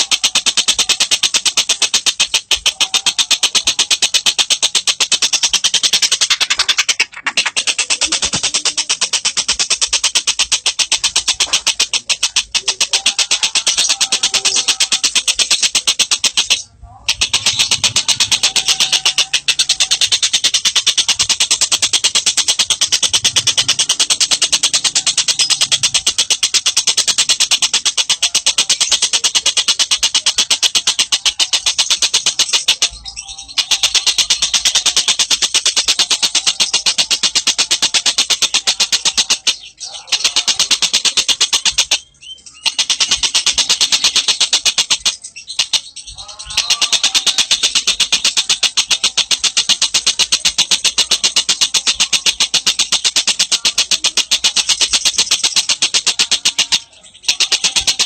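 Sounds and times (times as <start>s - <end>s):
bird trilling: 0.0s - 58.0s.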